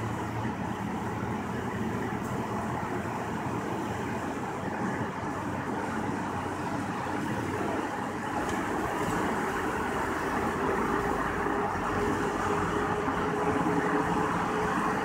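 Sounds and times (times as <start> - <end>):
tyres on wet pavement: 0.0 - 15.0
vehicle cabin road and engine noise: 0.0 - 15.0.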